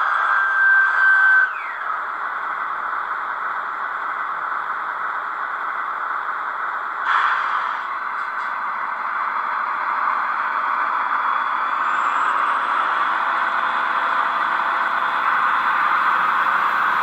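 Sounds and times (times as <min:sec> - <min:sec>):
diesel engine sound from speakers: 0:00.0 - 0:17.0
high whine: 0:00.0 - 0:17.0.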